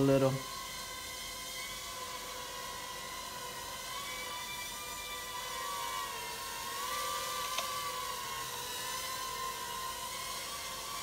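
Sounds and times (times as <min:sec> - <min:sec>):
quadcopter propellers whirring: 0:00.0 - 0:11.0.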